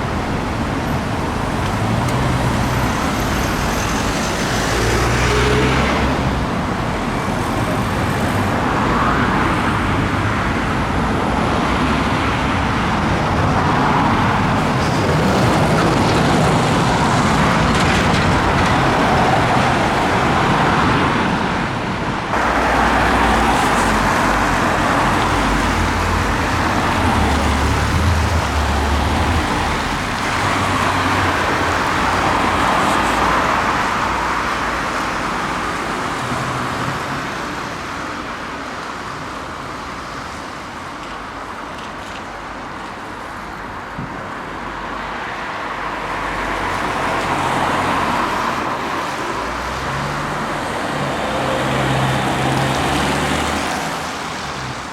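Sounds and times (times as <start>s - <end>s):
engines of passing vehicles: 0.0s - 54.9s.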